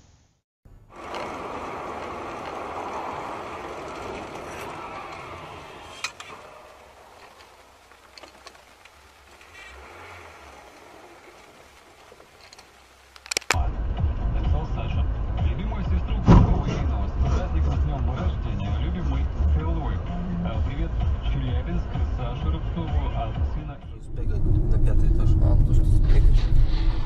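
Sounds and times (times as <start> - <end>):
car road noise: 0.7 - 27.0.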